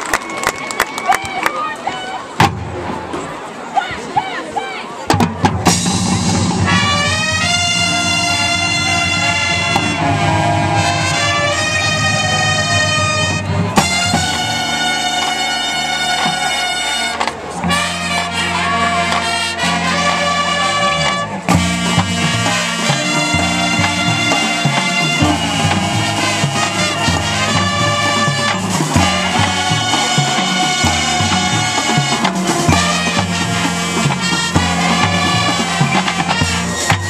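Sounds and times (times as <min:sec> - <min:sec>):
marching band playing brass chords: 0:00.0 - 0:37.0.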